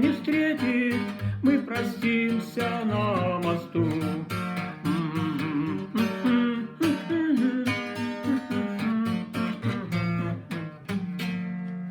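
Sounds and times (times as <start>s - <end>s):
acoustic guitar playing: 0.0s - 11.9s.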